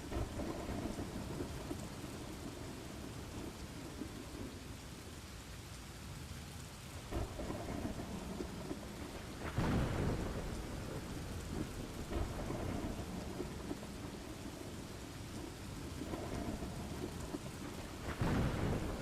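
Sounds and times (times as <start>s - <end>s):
rolling thunder: 0.0s - 4.6s, 7.1s - 19.0s
steady rain: 0.0s - 19.0s.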